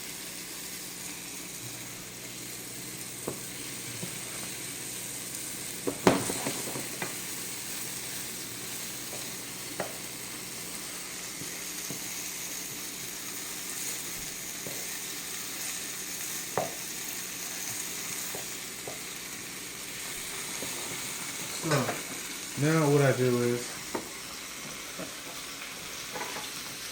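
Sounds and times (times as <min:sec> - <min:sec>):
chicken sizzling in a frying pan: 0:00.0 - 0:26.9.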